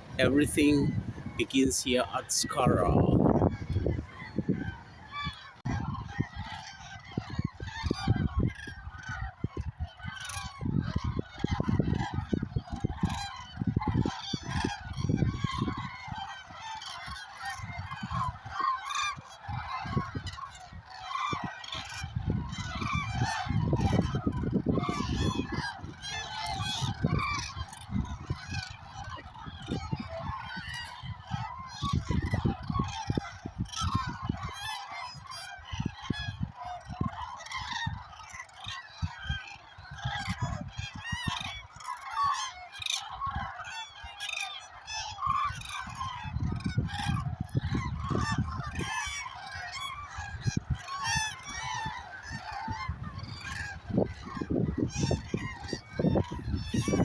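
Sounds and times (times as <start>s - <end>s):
geese and cranes calling: 0.0s - 57.0s.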